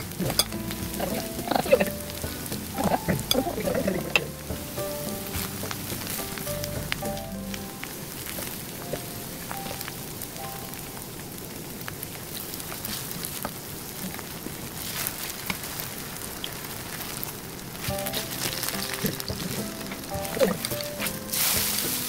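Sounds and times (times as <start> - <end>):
oil sizzling with pops: 0.0 - 22.0.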